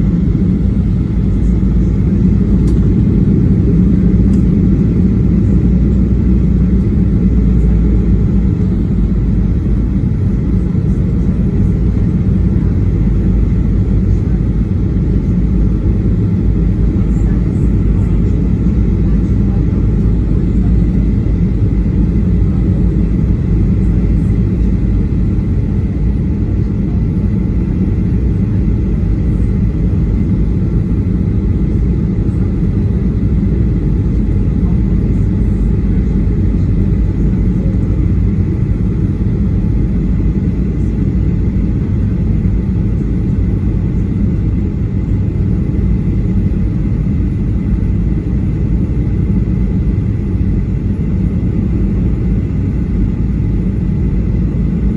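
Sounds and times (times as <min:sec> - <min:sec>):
aircraft cabin rumble: 0:00.0 - 0:54.9
faint steady whine: 0:00.0 - 0:54.9.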